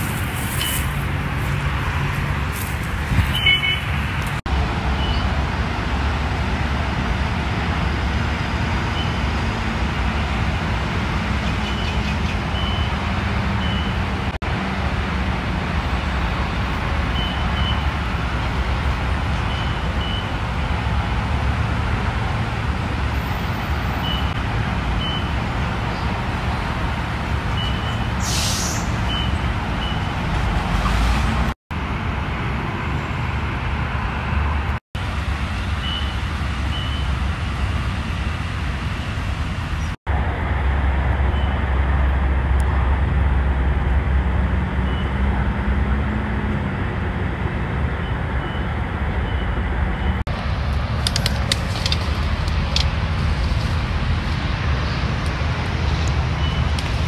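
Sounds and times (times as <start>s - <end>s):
rumble of heavy trucks: 0.0s - 57.0s.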